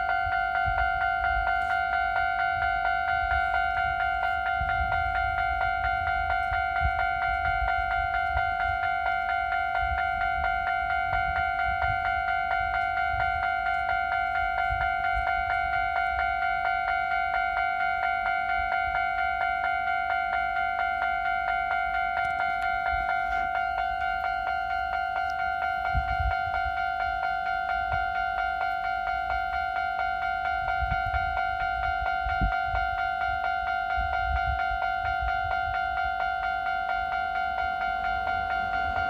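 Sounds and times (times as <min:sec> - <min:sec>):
level crossing alarm ding: 0:00.0 - 0:39.0.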